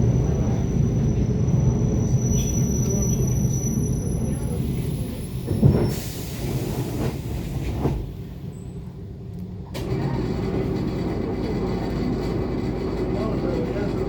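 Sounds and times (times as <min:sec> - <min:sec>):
train mechanical noise with low hum: 0:00.0 - 0:14.0.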